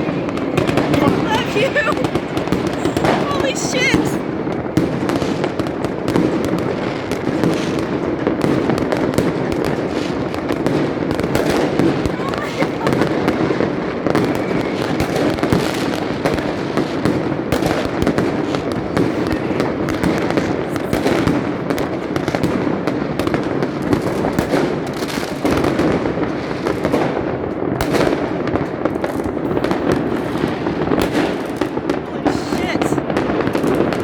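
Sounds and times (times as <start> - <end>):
firework bangs and crackles: 0.0 - 34.0
rumble of firework booms: 4.2 - 12.1, 12.7 - 32.1.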